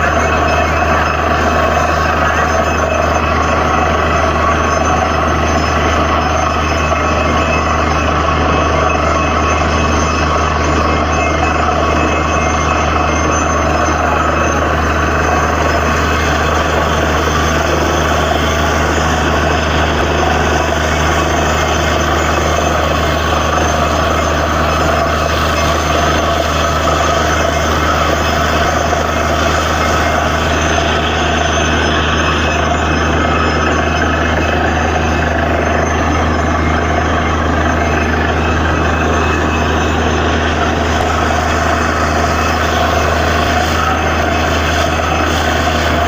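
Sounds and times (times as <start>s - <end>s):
drilling rig engine running: 0.0s - 46.0s.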